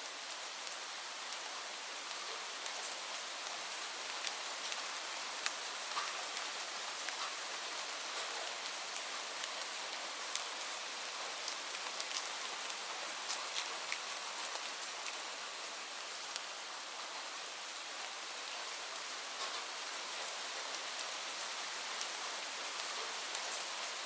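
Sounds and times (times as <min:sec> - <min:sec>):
rain pattering on leaves: 0:00.0 - 0:24.0.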